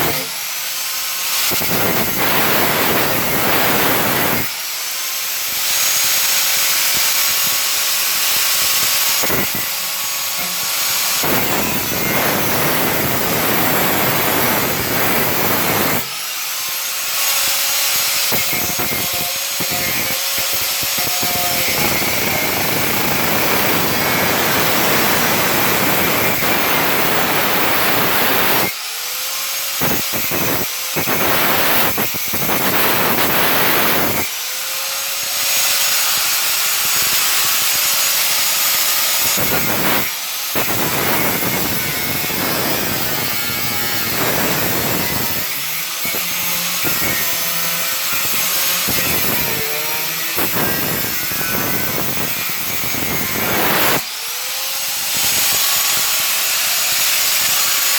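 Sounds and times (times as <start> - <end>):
angle grinder cutting: 0.0 - 57.9.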